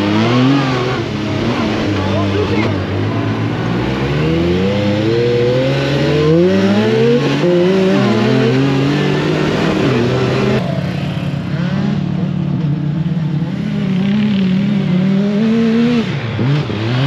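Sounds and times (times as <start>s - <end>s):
buggy engine accelerating: 0.0s - 17.0s.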